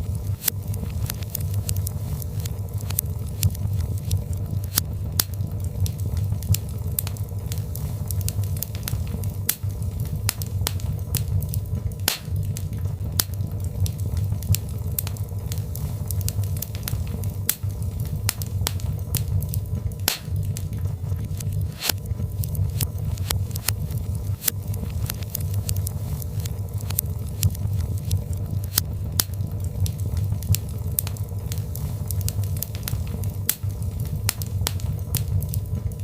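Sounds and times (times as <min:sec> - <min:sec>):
fire crackling and popping: 0:00.0 - 0:36.0
low rumble of flames: 0:00.0 - 0:36.0.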